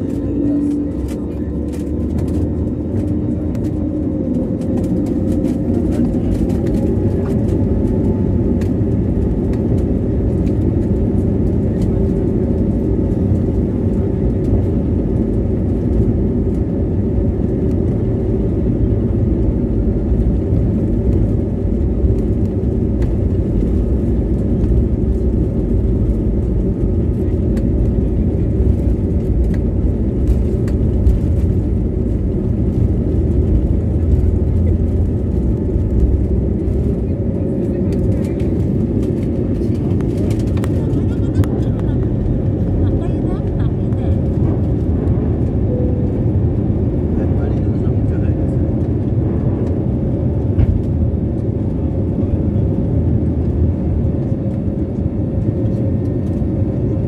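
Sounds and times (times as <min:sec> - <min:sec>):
jet engines at takeoff thrust: 0:00.0 - 0:57.0
wheels rumbling on runway: 0:00.0 - 0:57.0.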